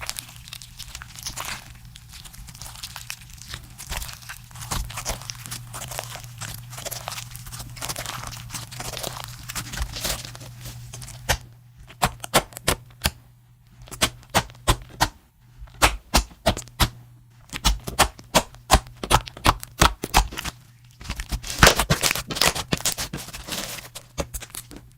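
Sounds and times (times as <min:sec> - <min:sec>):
faint low hum: 0:00.0 - 0:24.9.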